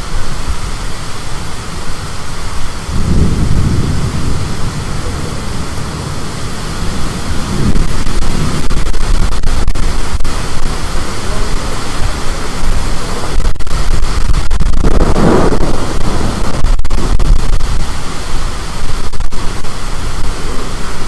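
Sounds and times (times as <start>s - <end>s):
deep rumble: 0.0s - 21.0s
high wind and rain: 0.0s - 21.0s.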